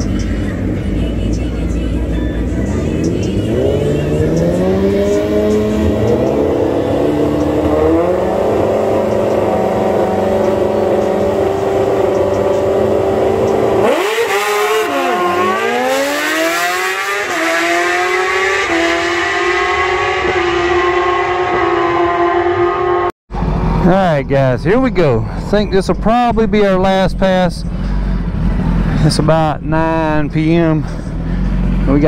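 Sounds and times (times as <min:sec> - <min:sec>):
racing engines accelerating: 0:00.0 - 0:32.0.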